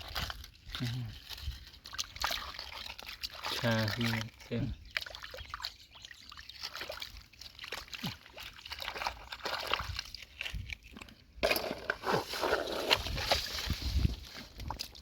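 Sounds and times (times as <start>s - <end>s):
mud squelching: 0.0s - 15.0s
water splashing and sloshing: 0.0s - 15.0s.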